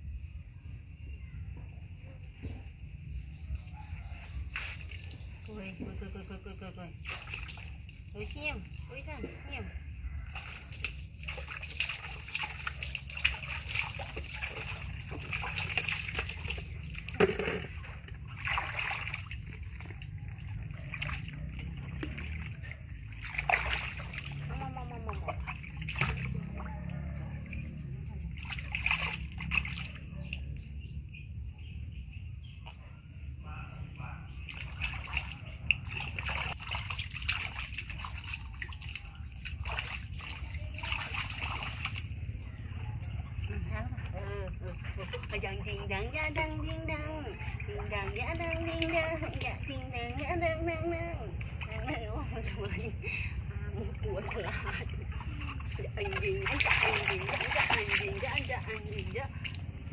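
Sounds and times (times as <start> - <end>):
water splashing in plastic basin: 2.8 - 30.7, 34.3 - 59.9.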